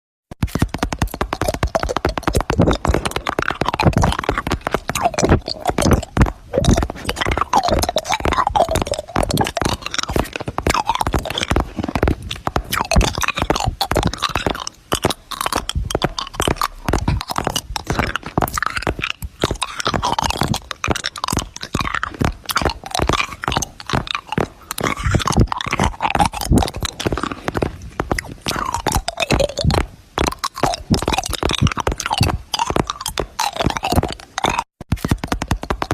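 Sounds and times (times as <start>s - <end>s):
crunchy clicks: 0.3s - 35.9s.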